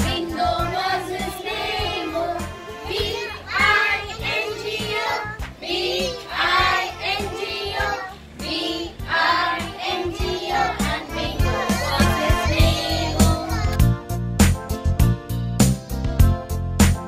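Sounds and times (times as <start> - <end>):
children singing: 0.0 - 13.8
music: 0.0 - 17.0.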